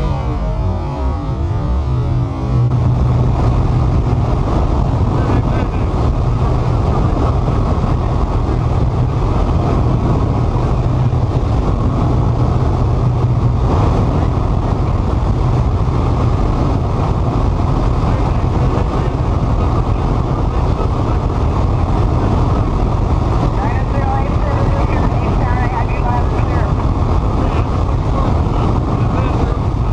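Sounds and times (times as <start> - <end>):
aircraft engine and airflow: 0.0 - 29.9.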